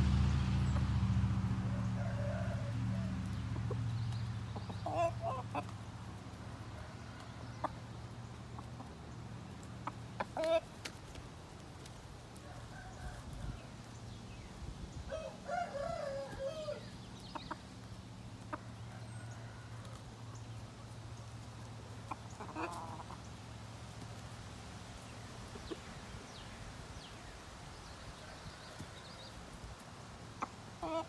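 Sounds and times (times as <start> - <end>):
chickens clucking: 1.6 - 31.0.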